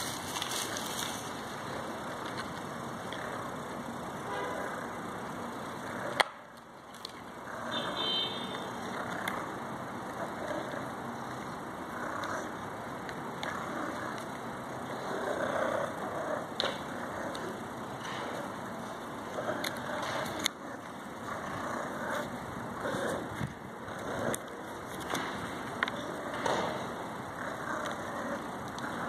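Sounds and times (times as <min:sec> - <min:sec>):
distant road traffic: 0:00.0 - 0:29.0.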